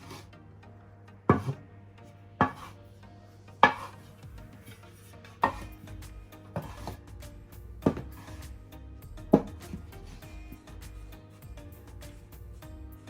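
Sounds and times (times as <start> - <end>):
light background music: 0.0 - 13.0.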